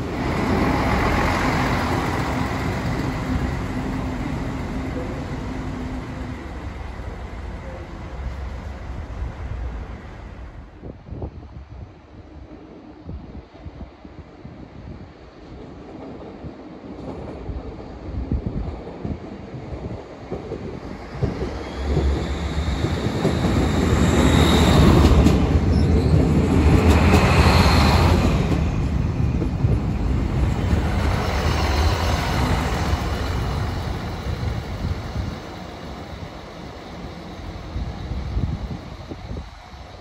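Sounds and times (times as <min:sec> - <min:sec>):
diesel railcar engine hum: 0:00.0 - 0:15.6, 0:17.4 - 0:40.0
train rail noise: 0:00.0 - 0:40.0.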